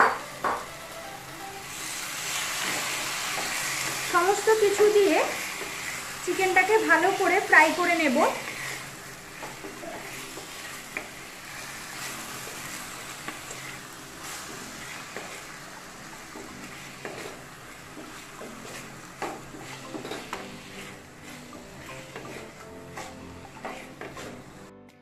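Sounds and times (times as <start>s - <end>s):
food sizzling in hot oil: 0.0s - 24.7s
wooden spatula scraping pan: 2.6s - 11.1s, 12.0s - 15.6s, 16.3s - 24.6s.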